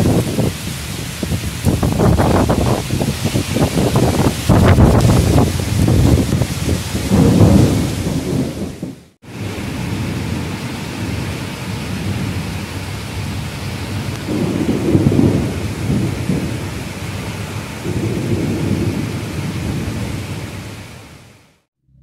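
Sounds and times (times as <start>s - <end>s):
thunder rumbles: 0.0s - 20.5s
heavy rain pouring: 0.0s - 21.6s.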